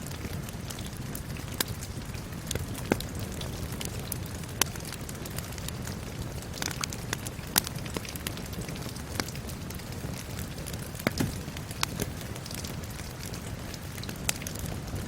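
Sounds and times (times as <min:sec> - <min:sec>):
rain hissing: 0:00.0 - 0:15.0
sharp pops of fire: 0:00.0 - 0:15.0
wood fire crackling: 0:00.0 - 0:15.0.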